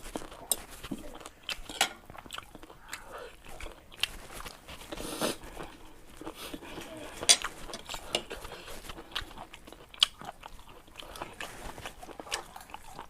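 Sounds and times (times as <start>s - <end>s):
person chewing noodles: 0.0s - 13.0s.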